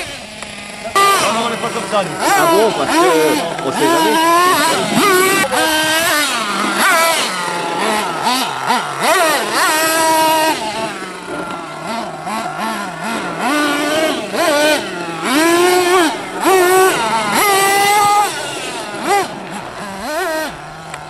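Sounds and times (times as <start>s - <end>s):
model truck engines revving: 0.0s - 21.0s.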